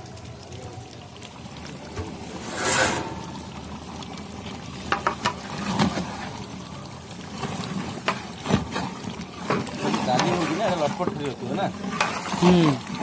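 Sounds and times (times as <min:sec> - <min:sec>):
curry bubbling and sizzling: 0:00.0 - 0:13.0.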